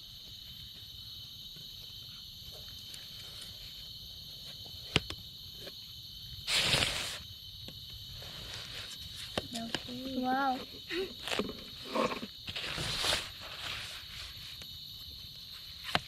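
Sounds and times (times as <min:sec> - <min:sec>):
high drone of insects: 0:00.0 - 0:16.0.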